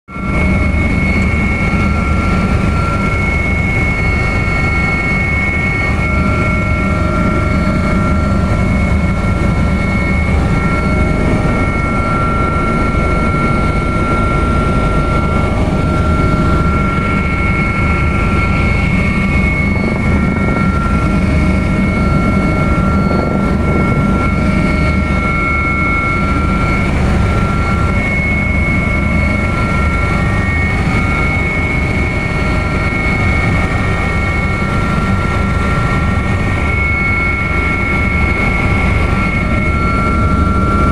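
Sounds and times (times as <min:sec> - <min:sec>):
helicopter rotor and engine noise: 0:00.1 - 0:40.9
high whines: 0:00.2 - 0:40.9.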